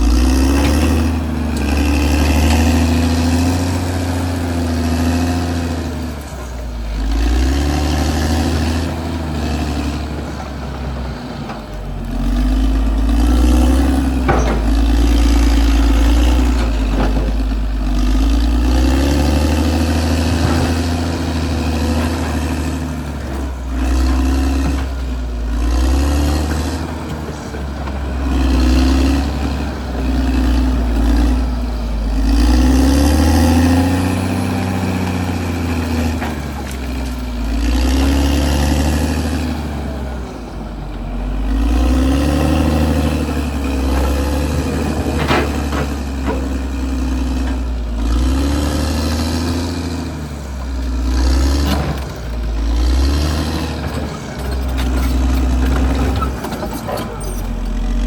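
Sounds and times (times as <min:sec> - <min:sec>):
bulldozer diesel engine working: 0:00.0 - 0:58.0.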